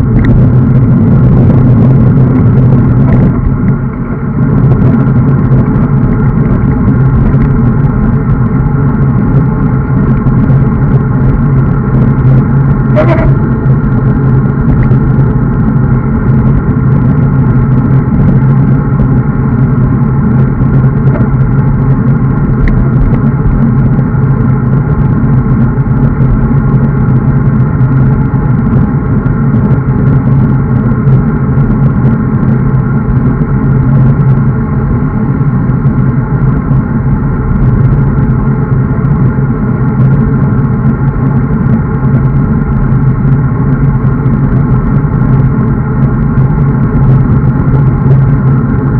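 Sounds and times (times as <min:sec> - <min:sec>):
constant droning hum: 0:00.0 - 0:48.9
wind rushing over microphone: 0:00.0 - 0:48.9.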